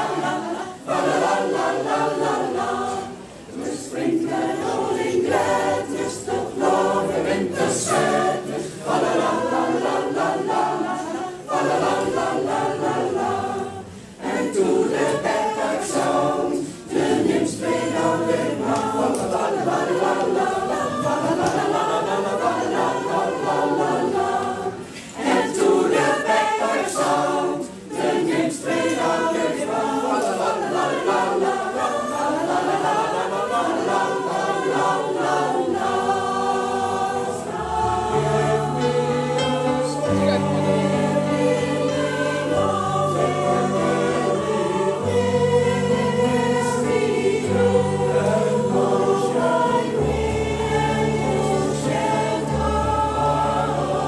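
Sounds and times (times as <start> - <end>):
mixed choir singing unaccompanied: 0.0 - 54.0.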